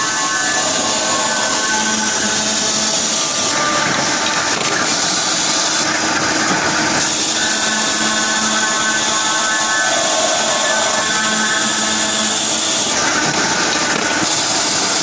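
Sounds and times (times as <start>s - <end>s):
circular saw cutting pipe: 0.0s - 15.0s.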